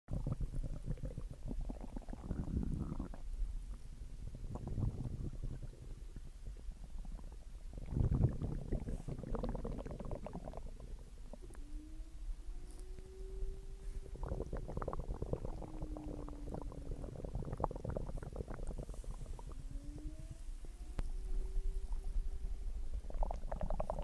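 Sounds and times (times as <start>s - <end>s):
stomach growling and gurgling: 0.1s - 24.0s.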